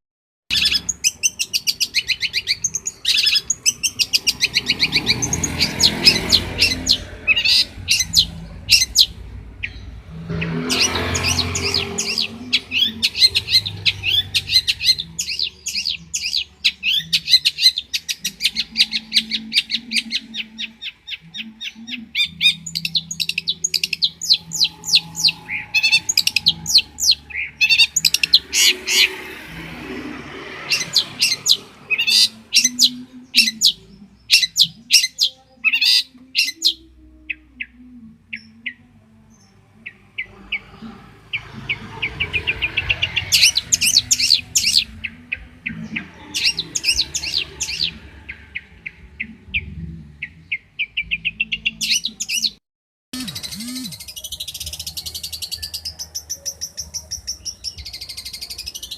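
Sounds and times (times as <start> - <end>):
shrike singing: 0.5 - 58.9.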